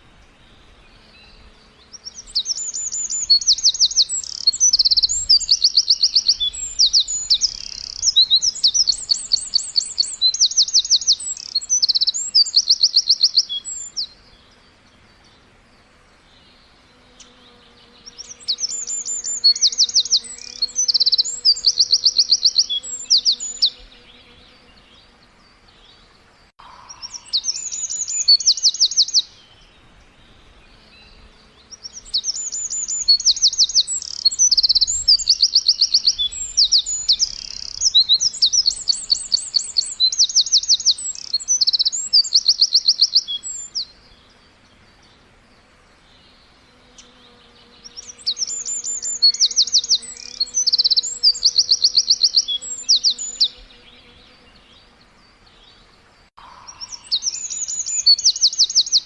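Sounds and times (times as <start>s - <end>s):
small birds chirping in trills: 0.0s - 59.0s.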